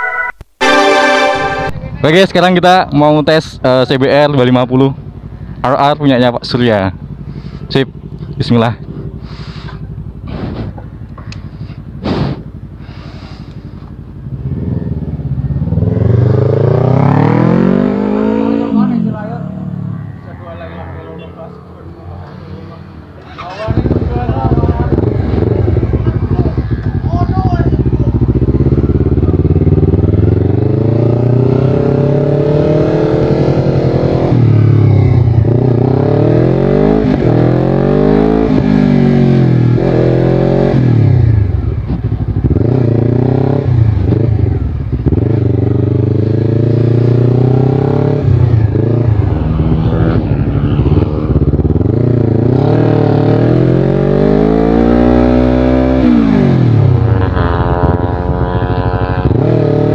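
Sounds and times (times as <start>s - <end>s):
motorcycle engine revving: 1.8s - 59.9s.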